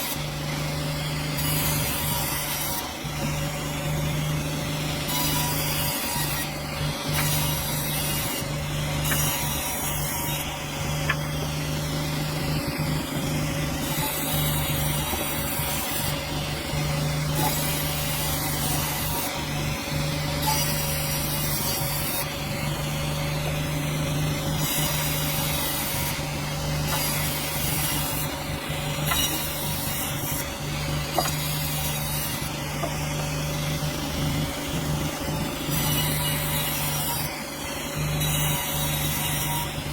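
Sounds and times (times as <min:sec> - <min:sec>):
blade sawing through log: 0:00.0 - 0:39.9.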